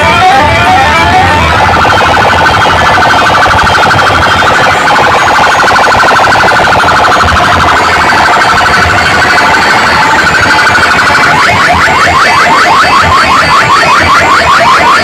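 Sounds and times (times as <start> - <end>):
electronic alarm-like warble: 0.0 - 15.0.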